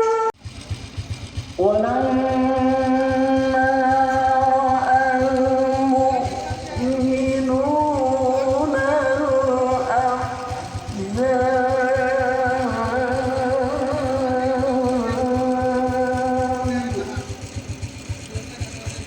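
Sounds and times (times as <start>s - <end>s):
person chanting with long wavering notes: 1.6s - 17.5s
low pulsing: 1.6s - 18.6s.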